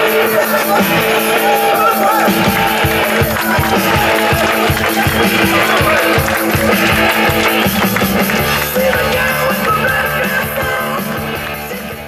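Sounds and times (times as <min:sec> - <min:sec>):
drum beat: 0:00.0 - 0:12.0
held bass notes: 0:00.0 - 0:12.0
loud rock music: 0:00.0 - 0:12.0.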